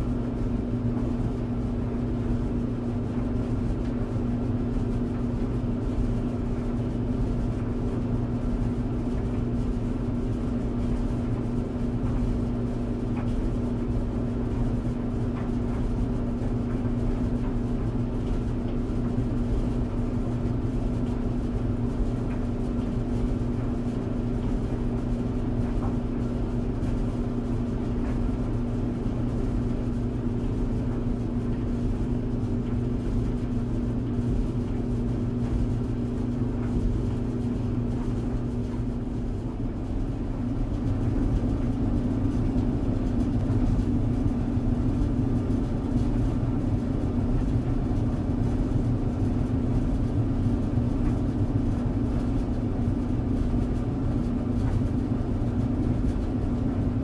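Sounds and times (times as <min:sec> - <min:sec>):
dryer motor hum: 0:00.0 - 0:57.0.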